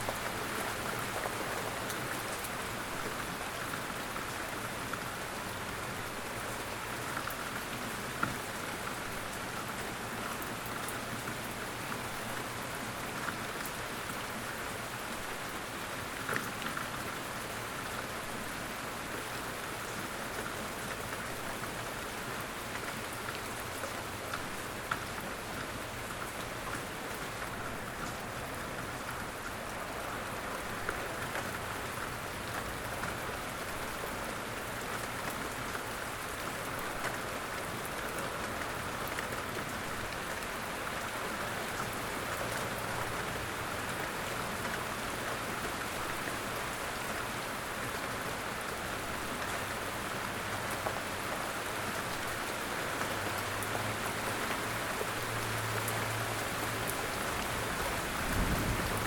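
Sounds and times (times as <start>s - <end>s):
light rain pattering: 0.0s - 59.0s.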